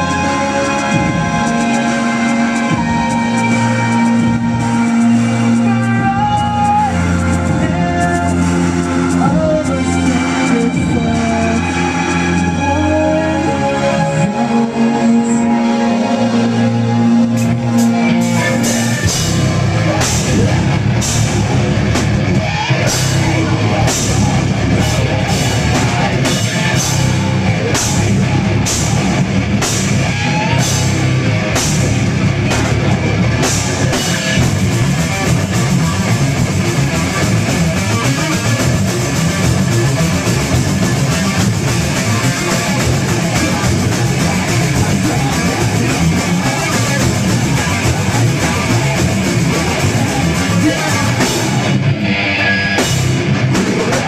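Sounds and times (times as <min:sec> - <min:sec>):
heavy rock band playing: 0:00.0 - 0:54.0.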